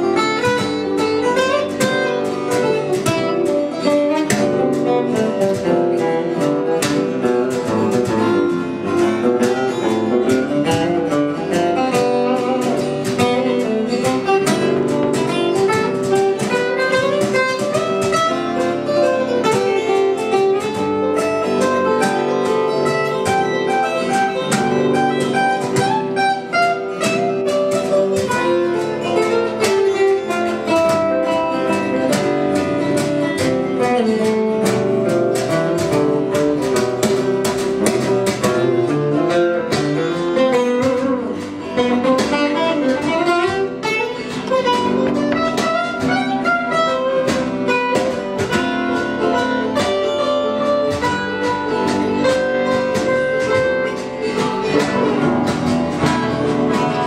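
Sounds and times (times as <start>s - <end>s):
picked guitar music: 0.0s - 57.0s.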